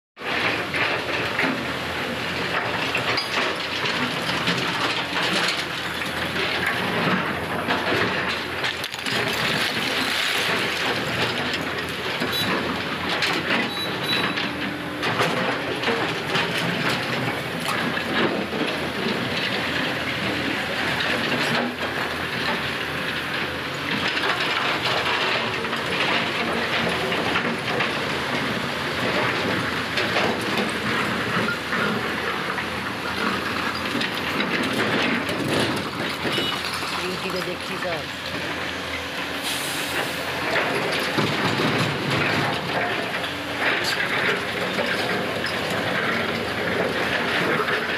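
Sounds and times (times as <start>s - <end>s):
heavy diesel engines running: 0.2s - 47.9s.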